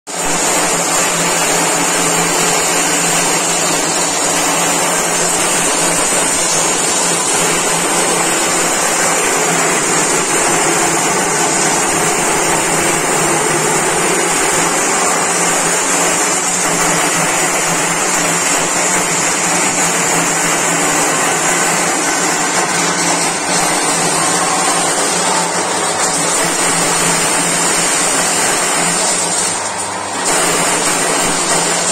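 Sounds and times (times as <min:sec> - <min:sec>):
corn thresher running: 0:00.1 - 0:31.9
kernels spraying out: 0:00.2 - 0:31.9.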